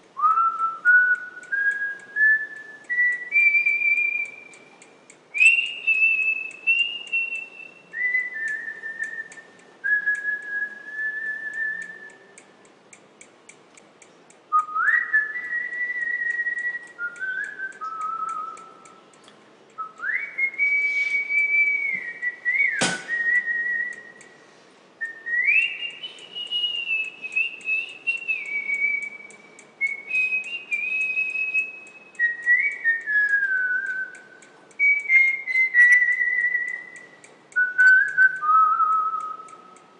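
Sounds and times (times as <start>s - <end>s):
person whistling a slow tune: 0.2s - 12.5s, 14.5s - 19.0s, 19.8s - 24.4s, 25.0s - 39.9s
sharp click: 1.0s - 24.4s, 25.3s - 39.9s.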